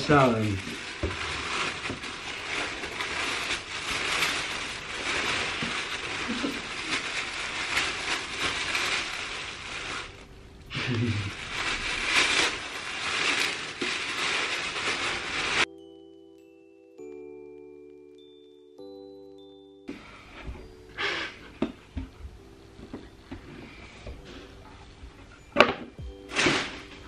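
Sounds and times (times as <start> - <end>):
tissue paper crinkling: 0.0 - 19.2, 22.4 - 27.0.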